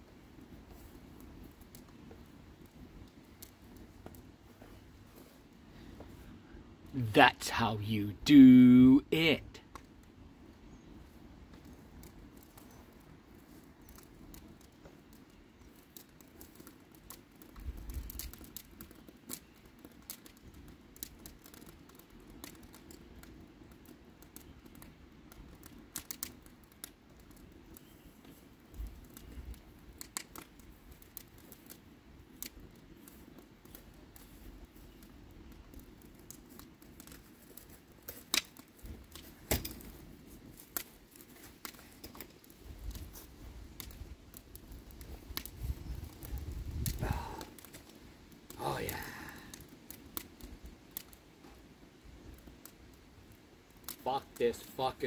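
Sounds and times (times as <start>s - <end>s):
faint steady hiss: 0.0s - 55.0s
wood fire crackling and popping: 0.0s - 55.0s.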